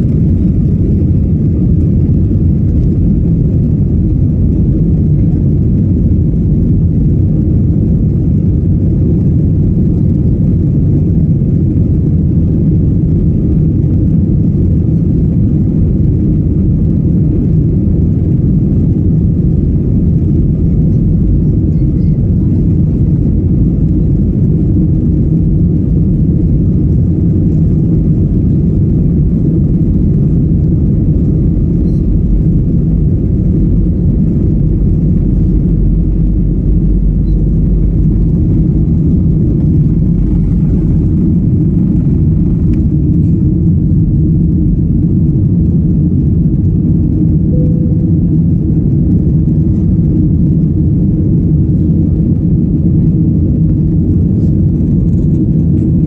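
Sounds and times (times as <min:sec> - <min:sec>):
plane engines rumbling at take-off: 0:00.0 - 0:56.0.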